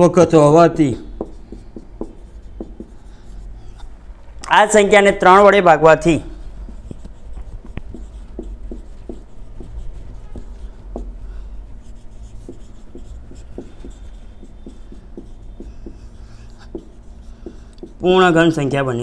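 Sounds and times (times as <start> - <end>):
marker writing on whiteboard: 0.0 - 19.0.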